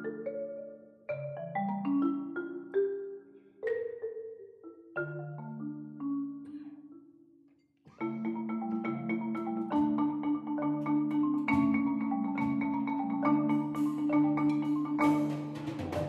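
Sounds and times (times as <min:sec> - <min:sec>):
marimba ensemble playing: 0:00.0 - 0:07.3, 0:07.9 - 0:16.0.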